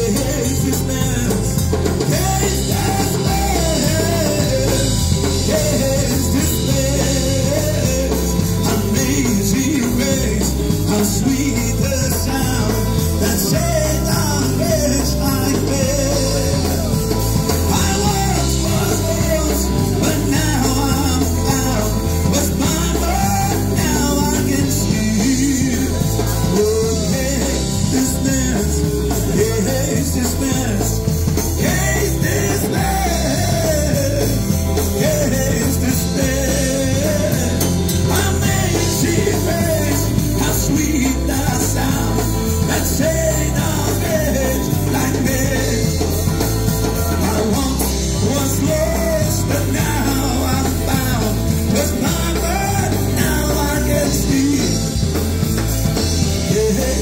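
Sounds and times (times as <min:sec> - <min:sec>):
live rock gospel band: 0:00.0 - 0:57.0
man singing lead: 0:00.0 - 0:57.0.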